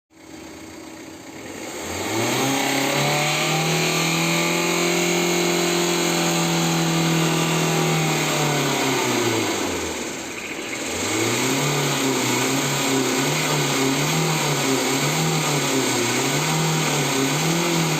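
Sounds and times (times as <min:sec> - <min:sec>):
diesel engine revving: 0:00.2 - 0:17.9.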